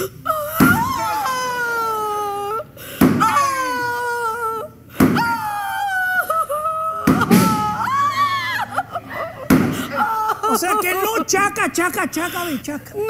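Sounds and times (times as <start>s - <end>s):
person mock crying: 0.0s - 13.0s.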